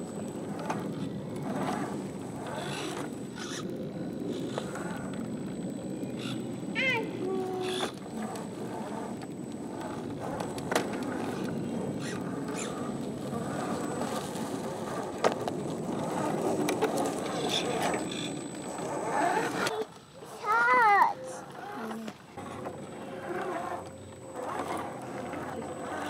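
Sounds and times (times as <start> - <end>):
toy truck electric motor running: 0.6 - 5.3, 6.2 - 6.5, 7.3 - 15.4, 16.0 - 26.0.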